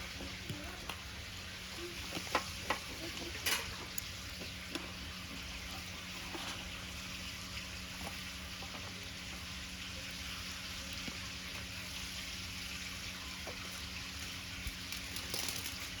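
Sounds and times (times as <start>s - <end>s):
batter sizzling in a pan: 0.0s - 16.0s.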